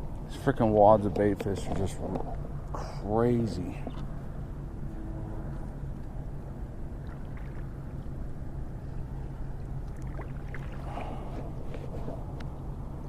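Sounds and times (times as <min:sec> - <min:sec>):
small boat motor humming: 0:00.0 - 0:13.0
water noise: 0:00.0 - 0:13.0.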